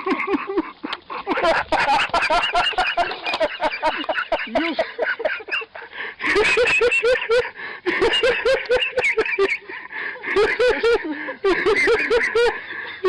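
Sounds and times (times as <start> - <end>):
people laughing hard: 0.0 - 13.0.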